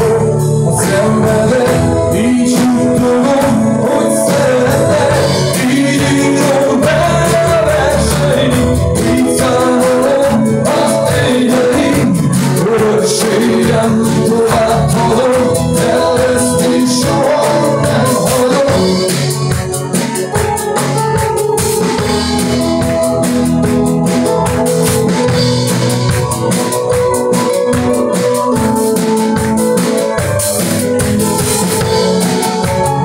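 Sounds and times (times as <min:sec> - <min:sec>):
person singing: 0:00.0 - 0:30.6
live band playing: 0:00.0 - 0:33.0
steady drum beat: 0:00.0 - 0:33.0.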